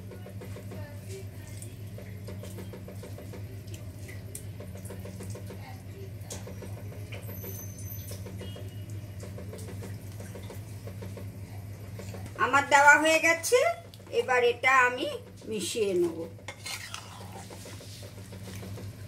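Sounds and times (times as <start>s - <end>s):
induction cooktop humming: 0.0s - 19.0s.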